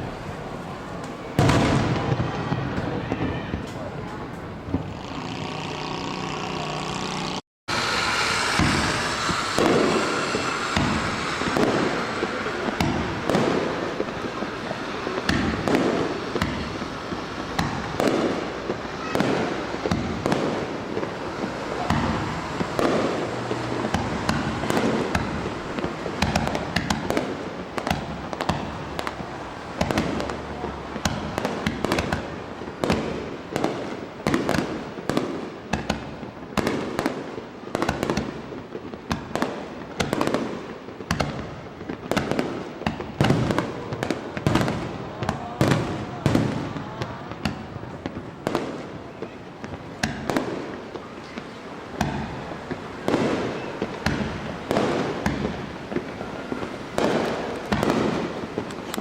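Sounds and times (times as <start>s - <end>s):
fireworks booming and crackling: 0.0s - 59.0s.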